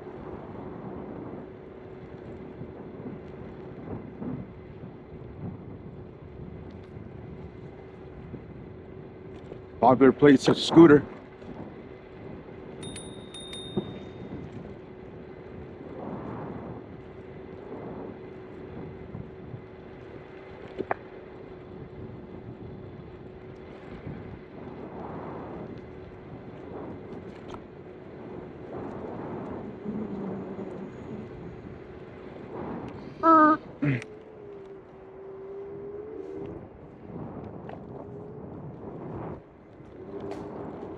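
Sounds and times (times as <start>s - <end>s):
electric scooter motor whining: 0.0s - 10.2s, 11.0s - 40.9s
wind and road noise: 0.0s - 40.9s.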